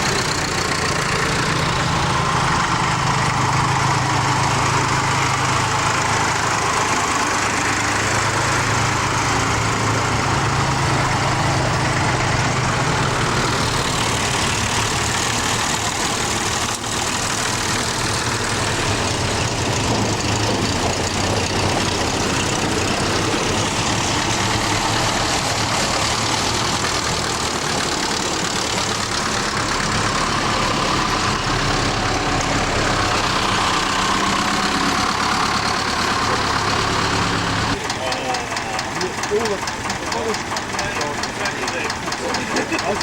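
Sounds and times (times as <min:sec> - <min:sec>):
road noise: 0:00.0 - 0:43.0
tractor diesel engine droning: 0:00.0 - 0:43.0.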